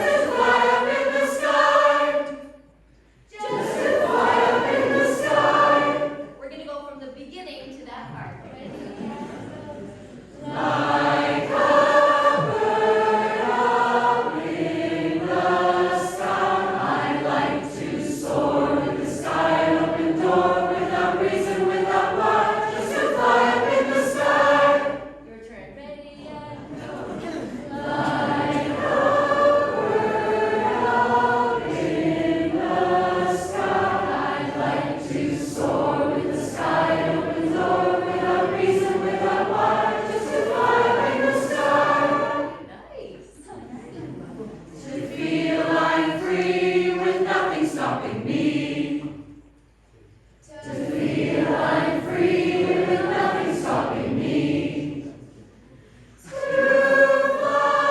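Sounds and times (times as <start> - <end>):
choir singing: 0.0 - 2.7, 3.3 - 6.4, 8.7 - 25.3, 26.2 - 49.6, 50.4 - 57.9.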